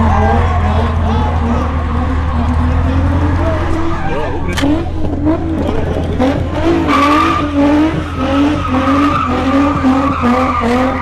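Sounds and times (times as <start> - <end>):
car tyres squealing: 0.0 - 11.0.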